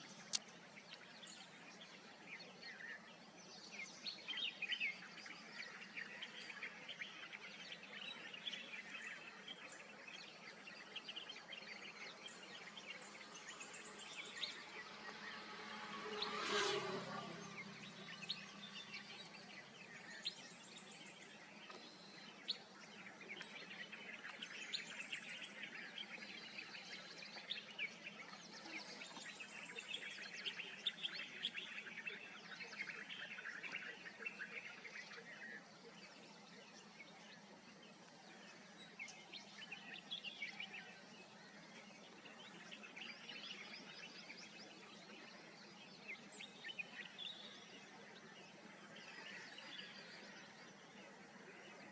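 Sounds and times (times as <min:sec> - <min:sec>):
faint background noise: 0:00.0 - 0:51.9
wild birds chirping: 0:00.0 - 0:51.9.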